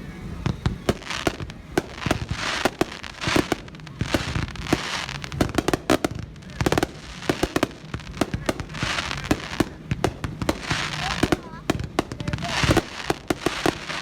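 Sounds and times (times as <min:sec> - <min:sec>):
firework bangs: 0:00.0 - 0:14.0
fireworks hissing: 0:00.0 - 0:14.0.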